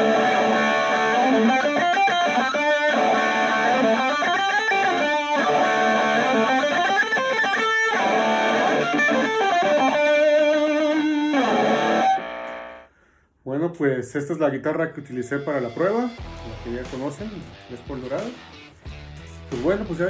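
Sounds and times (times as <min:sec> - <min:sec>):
distorted electric guitar: 0:00.0 - 0:12.9, 0:15.1 - 0:20.0.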